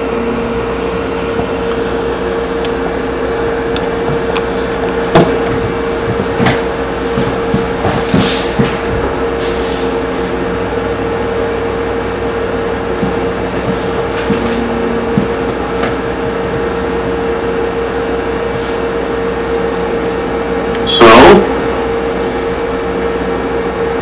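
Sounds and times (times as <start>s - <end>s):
constant mid-pitched hum: 0.0s - 24.0s.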